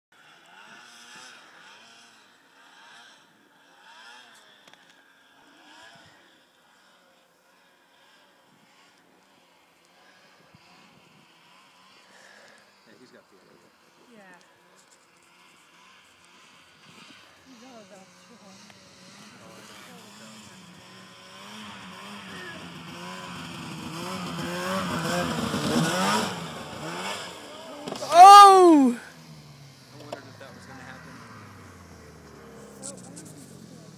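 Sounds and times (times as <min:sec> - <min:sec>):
distant snowmobile engines revving: 0:00.2 - 0:33.9.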